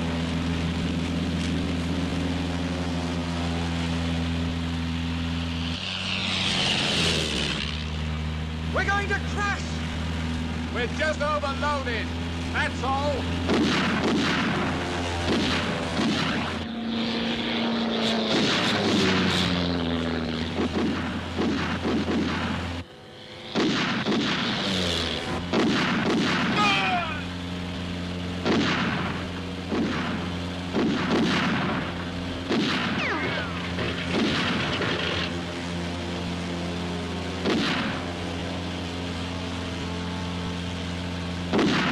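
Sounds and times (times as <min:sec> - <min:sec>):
propeller plane engine drone: 0:00.0 - 0:41.9.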